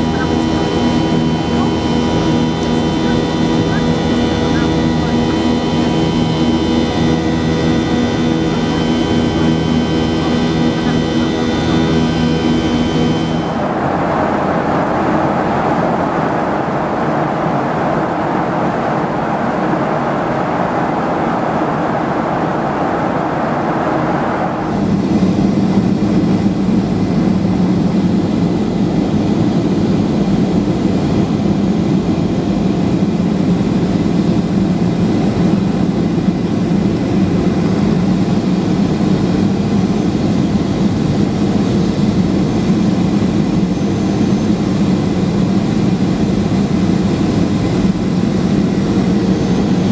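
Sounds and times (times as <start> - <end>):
airplane cabin engine noise: 0.0 - 49.9.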